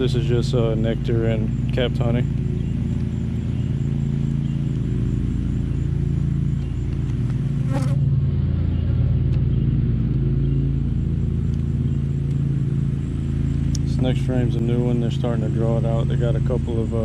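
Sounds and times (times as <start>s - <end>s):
honeybees droning: 0.0s - 17.0s.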